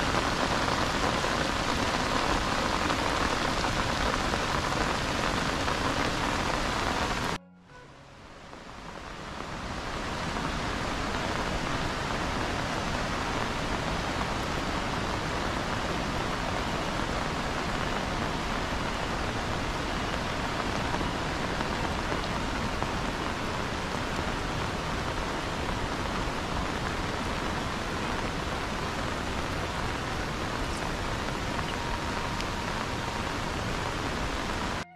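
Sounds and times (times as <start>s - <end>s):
heavy rain falling: 0.0s - 7.4s, 8.3s - 34.9s.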